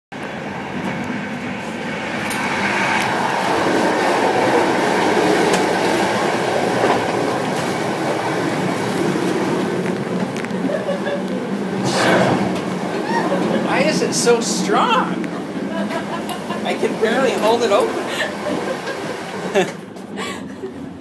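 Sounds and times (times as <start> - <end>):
train rumble and rattle: 0.1 - 21.0.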